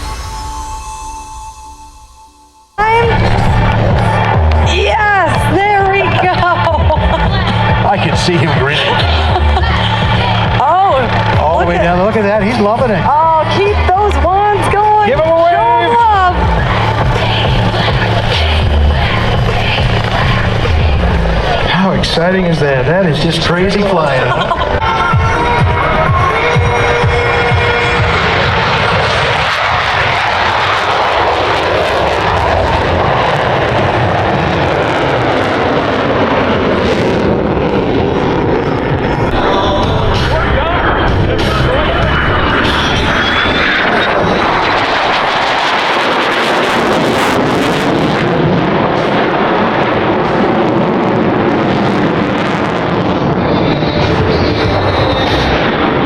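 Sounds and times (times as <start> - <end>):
airplane engine rushing: 0.0 - 56.0.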